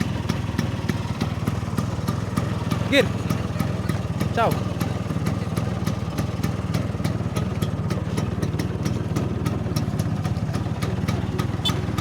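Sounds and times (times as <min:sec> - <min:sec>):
regular ticking clatter: 0:00.0 - 0:12.0
scooter engine running: 0:00.0 - 0:12.0.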